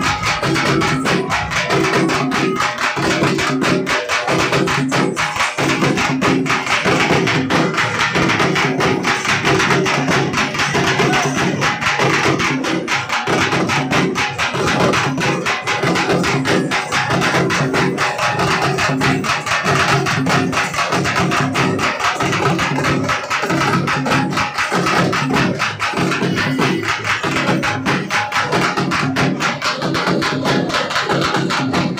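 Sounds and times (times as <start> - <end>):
large drums beaten fast: 0.0 - 31.9.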